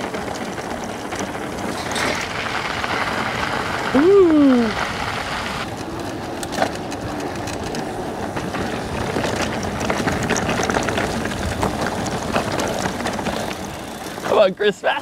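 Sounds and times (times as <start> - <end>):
bike rattling and knocking: 0.0 - 15.0
bike tyres crunching on gravel: 0.0 - 15.0.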